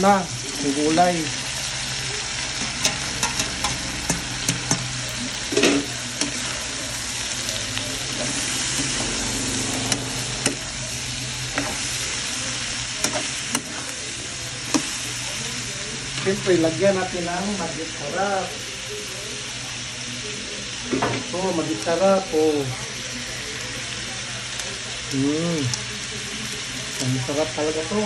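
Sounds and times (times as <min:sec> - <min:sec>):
food sizzling in wok: 0:00.0 - 0:28.0.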